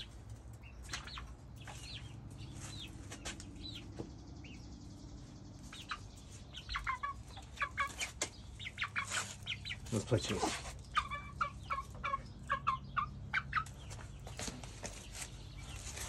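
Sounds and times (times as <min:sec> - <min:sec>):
young hens chirping: 0:00.0 - 0:16.0.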